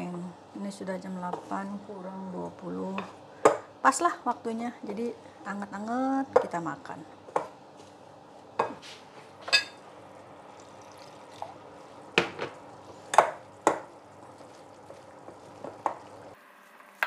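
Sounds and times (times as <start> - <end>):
faint steady hum: 0.0 - 16.4.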